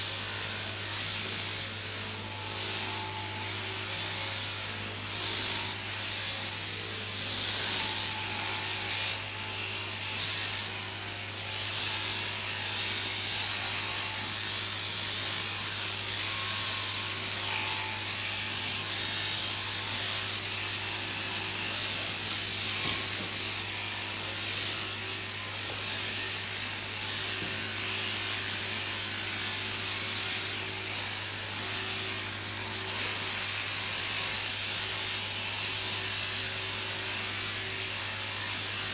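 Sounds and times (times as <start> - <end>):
shearing handpieces buzzing: 0.0 - 38.9.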